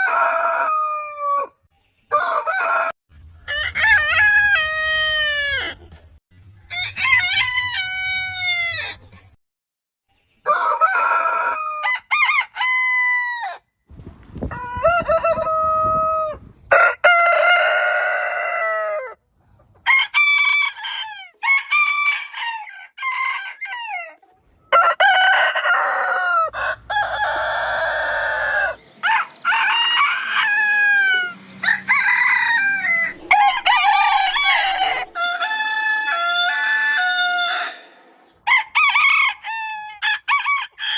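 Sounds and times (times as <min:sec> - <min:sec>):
roosters crowing: 0:00.0 - 0:05.9, 0:06.7 - 0:09.0, 0:10.5 - 0:13.6, 0:14.5 - 0:19.2, 0:19.8 - 0:40.9.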